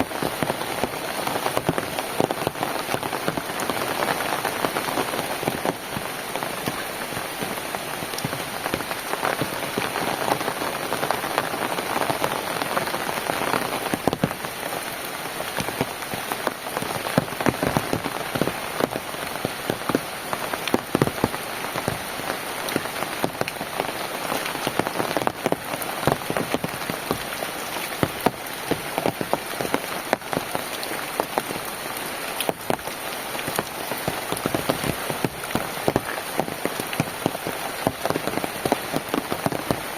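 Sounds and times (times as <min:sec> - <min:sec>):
rain falling: 0:00.0 - 0:39.9
raindrops ticking: 0:00.0 - 0:39.9.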